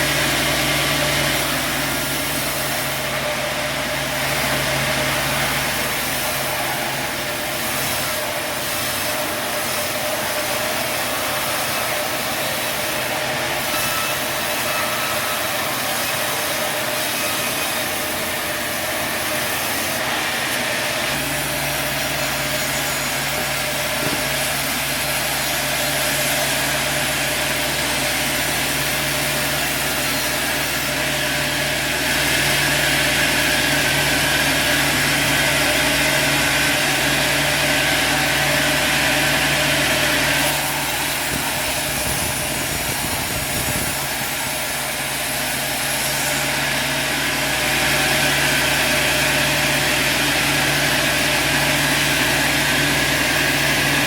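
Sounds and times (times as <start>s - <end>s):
mechanical saw and engine: 0.0s - 54.0s.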